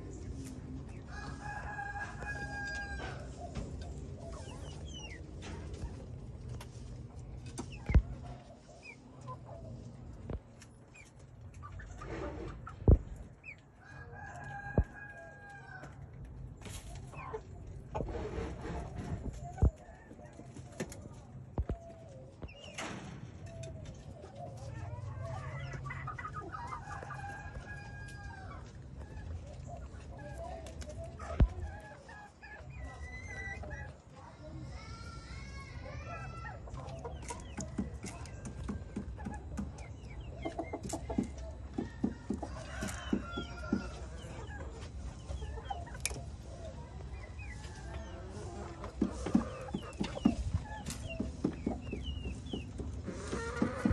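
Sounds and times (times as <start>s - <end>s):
chickens clucking and calling: 0.0s - 53.9s.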